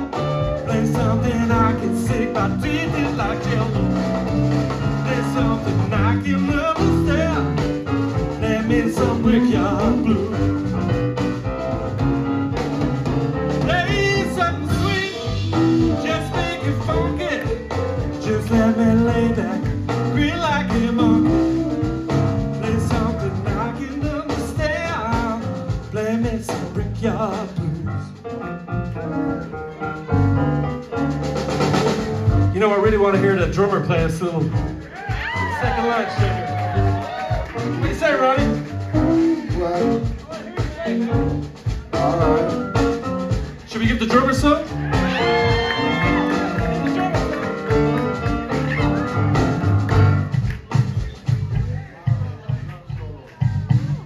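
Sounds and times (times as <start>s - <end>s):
live blues band playing: 0.0s - 54.0s.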